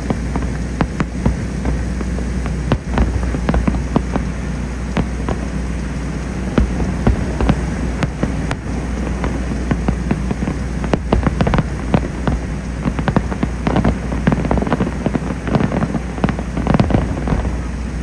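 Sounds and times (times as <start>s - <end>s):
fireworks bursting: 0.0s - 18.0s
low rumble: 0.0s - 18.0s.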